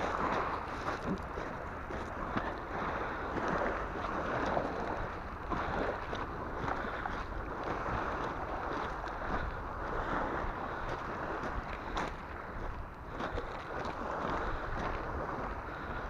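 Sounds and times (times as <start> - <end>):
waves washing over pebbles: 0.0 - 16.0
wind rumble on microphone: 0.0 - 16.0.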